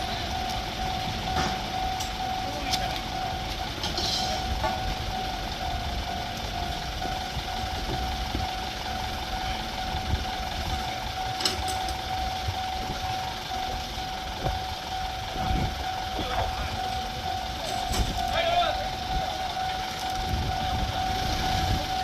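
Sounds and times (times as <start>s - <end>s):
level crossing alarm ringing: 0.0s - 22.0s.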